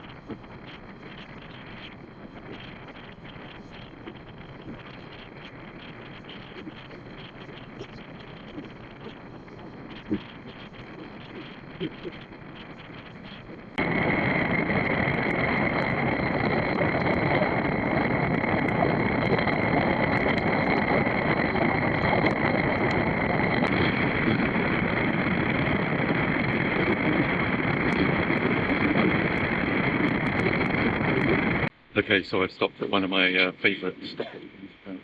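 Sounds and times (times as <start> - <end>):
wind rushing over microphone: 0.0 - 31.7.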